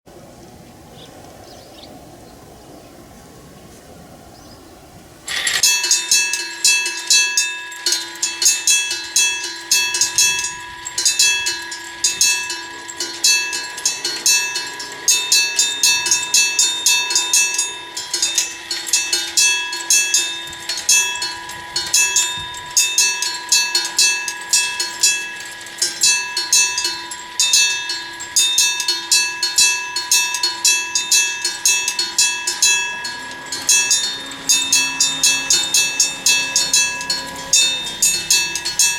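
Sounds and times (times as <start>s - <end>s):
level-crossing bell ringing: 5.3s - 38.9s.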